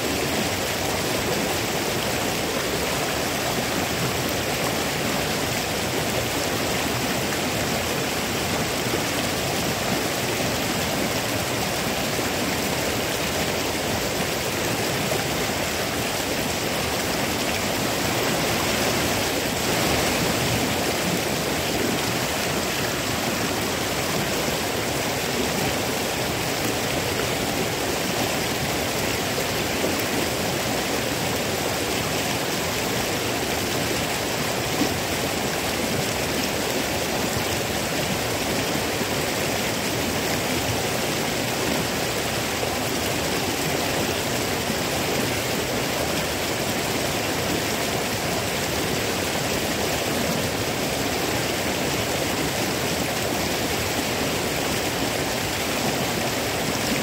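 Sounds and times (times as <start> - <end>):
stream rushing over stones: 0.0 - 57.0.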